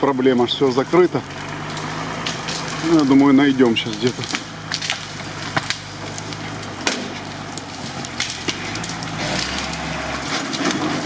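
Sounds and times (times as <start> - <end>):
branches cracking and snapping: 0.0 - 11.0
truck engine rumbling: 0.0 - 11.0.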